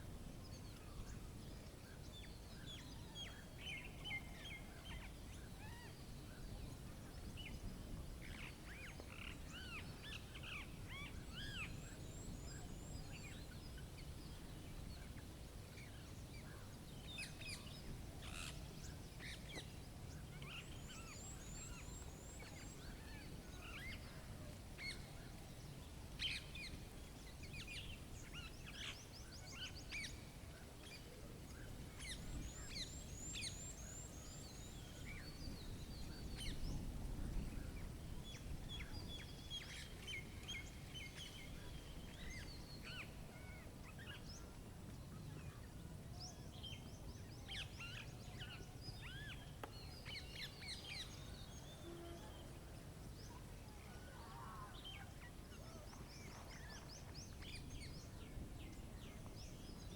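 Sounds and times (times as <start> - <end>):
songbirds chirping: 0.2 - 59.9.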